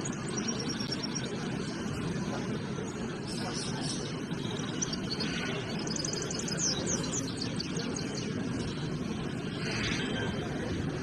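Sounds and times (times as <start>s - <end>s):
songbirds singing: 0.0s - 10.7s
murmur of crowded hall: 0.0s - 11.0s.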